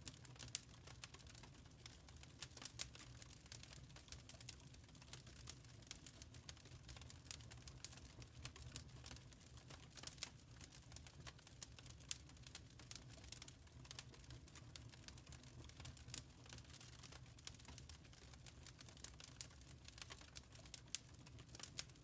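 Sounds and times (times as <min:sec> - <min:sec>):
faint wood fire crackling: 0:00.0 - 0:22.0.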